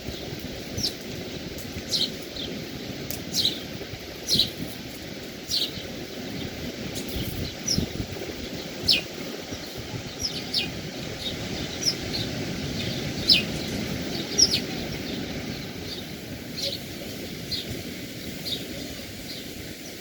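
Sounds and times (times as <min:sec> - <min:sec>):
birds chirping: 0:00.0 - 0:20.0
sea rushing: 0:00.0 - 0:20.0.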